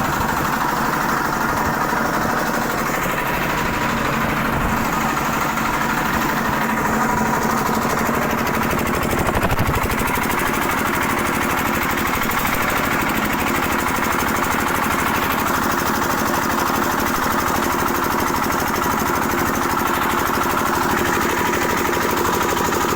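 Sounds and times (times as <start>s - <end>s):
engine idling: 0.0s - 22.9s.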